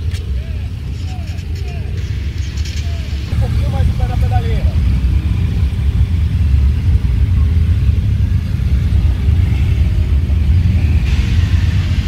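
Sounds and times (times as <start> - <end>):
motorcycles rumbling at low speed: 0.0 - 12.0.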